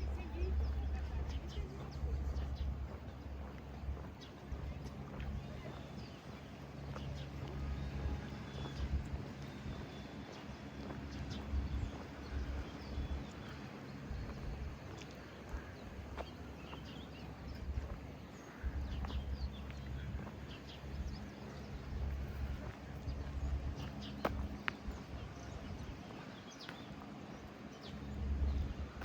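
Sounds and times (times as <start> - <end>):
footsteps: 0.0 - 29.0
traffic engine hum: 0.0 - 29.0.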